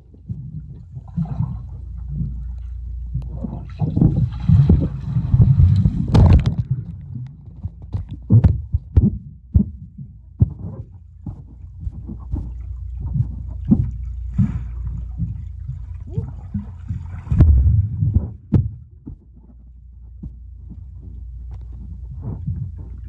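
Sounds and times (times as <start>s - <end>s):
muffled underwater churning rumble: 0.0s - 23.0s
underwater knocks and thumps: 0.0s - 23.0s.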